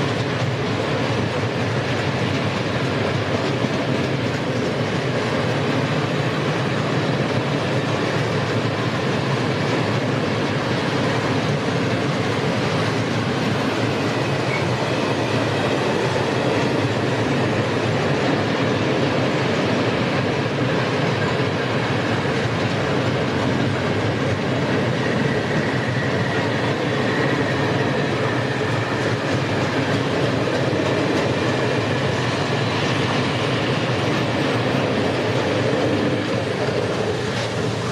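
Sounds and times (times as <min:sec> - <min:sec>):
freight train wheels on rails: 0:00.0 - 0:37.9.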